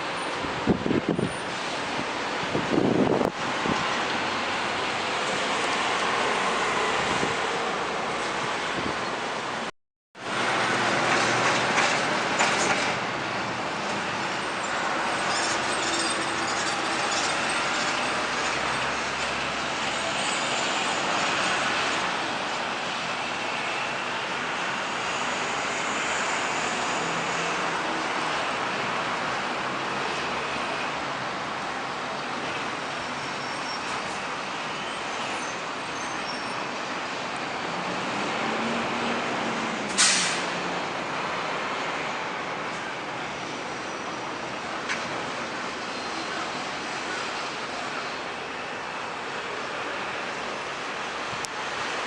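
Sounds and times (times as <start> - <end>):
heavy trucks passing: 0.0 - 52.0
road traffic: 0.0 - 52.0.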